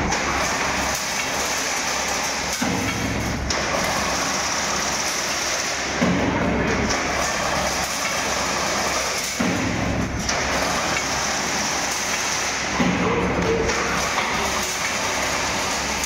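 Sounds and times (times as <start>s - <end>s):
fencing machine running: 0.0s - 16.0s.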